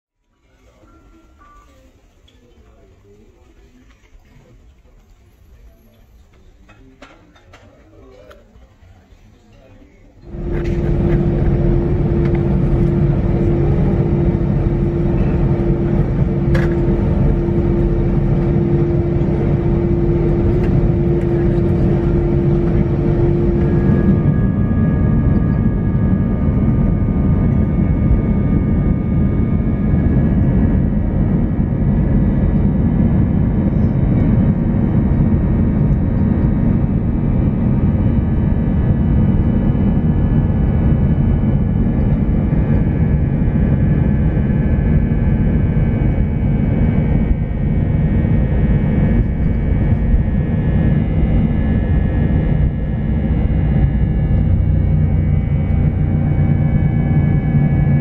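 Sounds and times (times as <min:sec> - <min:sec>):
jet engines low rumble: 0:10.1 - 0:58.0
jet engine whining tones: 0:10.2 - 0:58.0.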